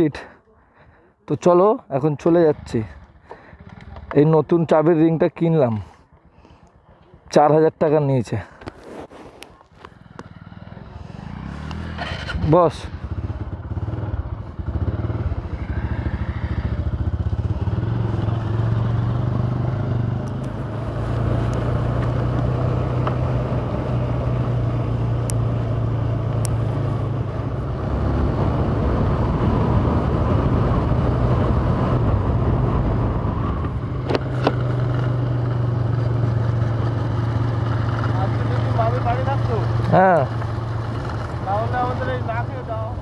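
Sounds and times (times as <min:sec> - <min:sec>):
road and wind noise: 0:00.0 - 0:43.0
motorcycle engine running: 0:02.2 - 0:04.2, 0:09.6 - 0:43.0.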